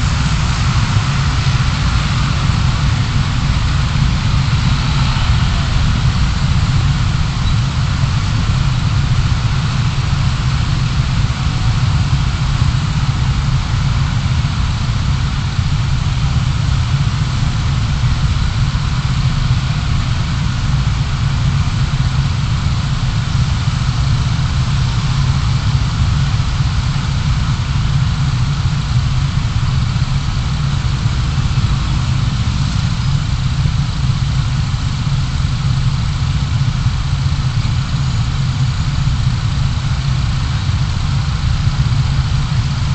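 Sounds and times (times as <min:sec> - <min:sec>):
car engine and road noise: 0:00.0 - 0:42.9.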